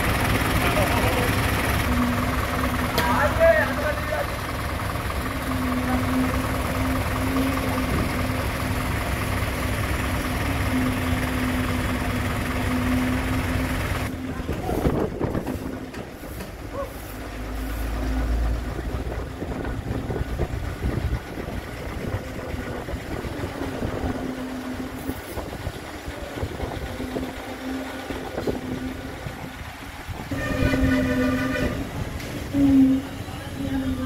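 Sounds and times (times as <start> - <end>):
diesel truck engines rumbling: 0.0 - 34.0
engine hum: 0.0 - 34.0.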